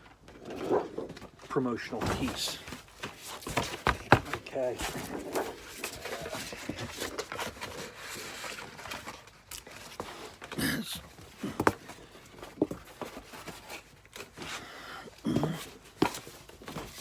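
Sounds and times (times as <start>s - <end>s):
paper and packaging rustling: 0.9s - 17.0s.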